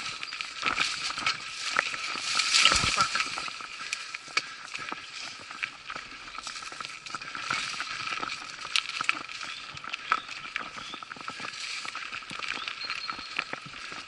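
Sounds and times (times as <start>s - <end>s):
bike clicking and rattling: 0.0s - 14.0s
bike tyres brushing through grass: 0.0s - 14.0s.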